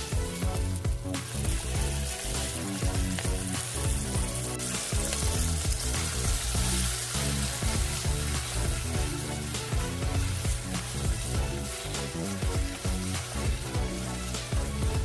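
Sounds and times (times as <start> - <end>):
background music: 0.0 - 15.0
food sizzling in a pan: 0.0 - 15.0.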